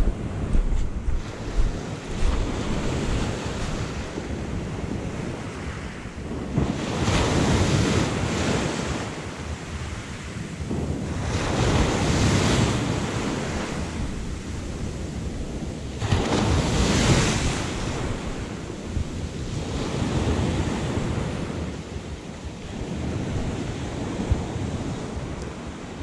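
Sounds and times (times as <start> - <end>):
sea waves washing in: 0.0 - 26.0
wind buffeting microphone: 0.0 - 26.0.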